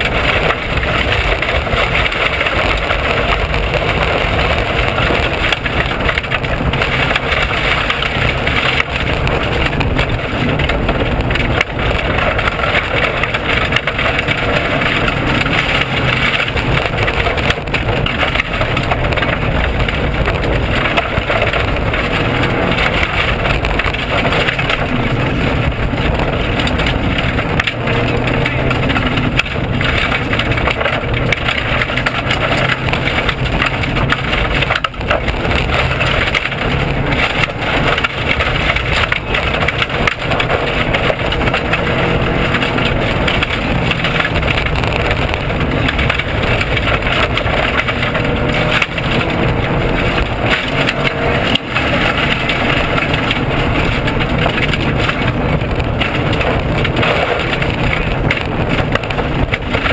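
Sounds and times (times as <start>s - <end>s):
car engine at high revs: 0.0s - 59.9s
stones rattling against car body: 0.0s - 59.9s.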